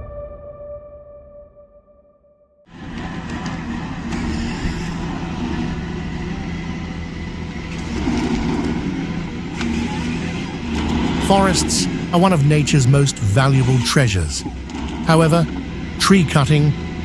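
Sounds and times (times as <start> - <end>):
heavy machine engine rumbling: 2.7 - 17.0.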